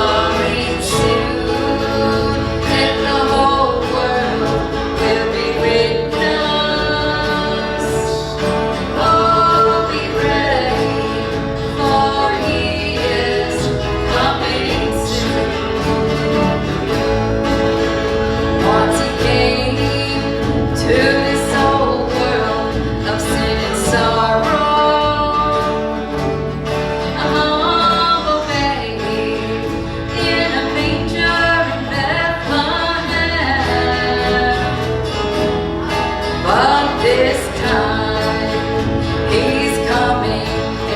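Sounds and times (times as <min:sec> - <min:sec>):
country gospel singing with band: 0:00.0 - 0:40.9.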